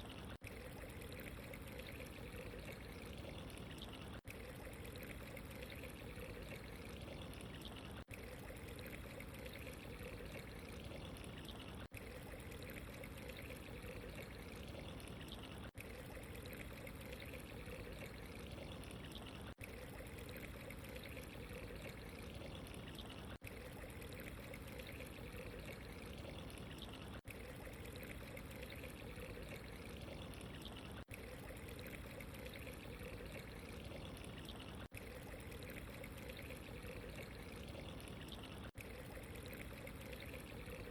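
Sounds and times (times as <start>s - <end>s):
water trickling and pouring: 0.0s - 40.9s.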